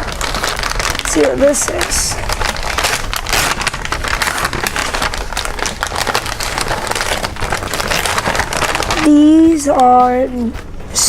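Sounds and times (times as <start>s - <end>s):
wrapping paper tearing and crinkling: 0.0s - 11.0s.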